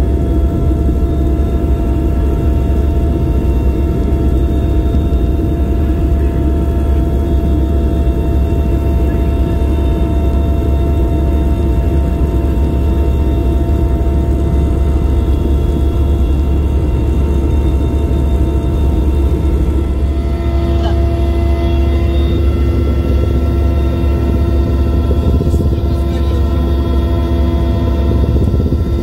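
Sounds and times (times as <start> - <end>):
helicopter engine and rotor drone: 0.0 - 29.0
turbine whine: 0.0 - 29.0.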